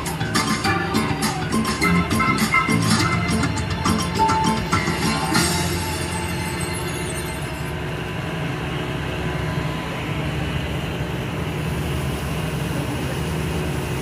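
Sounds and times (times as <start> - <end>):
ferry engine humming: 0.0 - 14.0.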